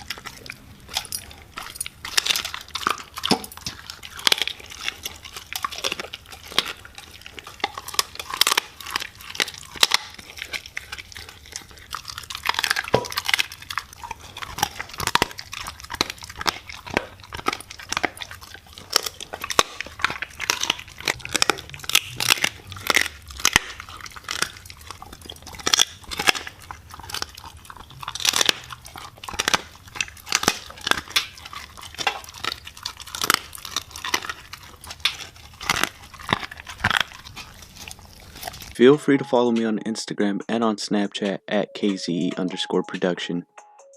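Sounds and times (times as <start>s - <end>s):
dog chewing and crunching: 0.0s - 39.7s.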